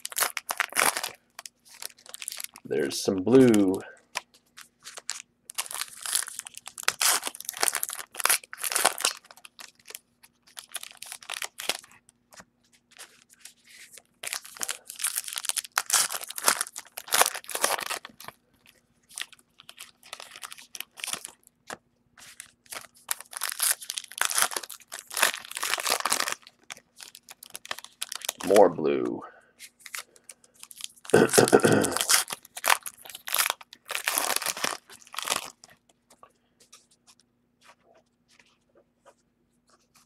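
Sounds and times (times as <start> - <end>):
foil wrappers crinkling: 0.0 - 28.8, 29.6 - 40.0.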